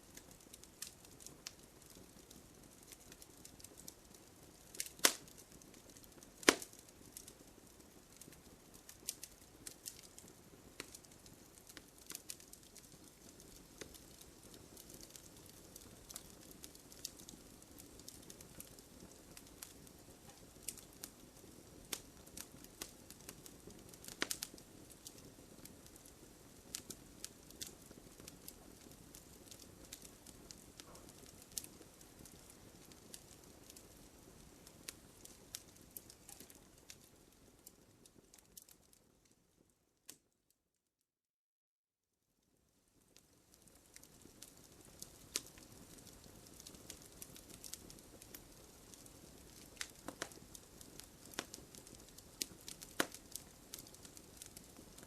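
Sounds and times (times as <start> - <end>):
faint hiss of burning: 0.0 - 40.3, 42.4 - 55.0
wood fire crackling and popping: 0.0 - 40.3, 42.5 - 55.0.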